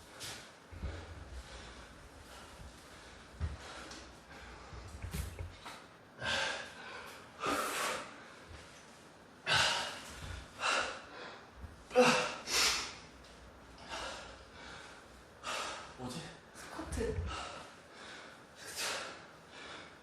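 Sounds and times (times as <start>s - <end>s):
man breathing hard: 0.0s - 5.5s, 6.2s - 8.8s, 9.4s - 13.1s, 13.8s - 20.0s.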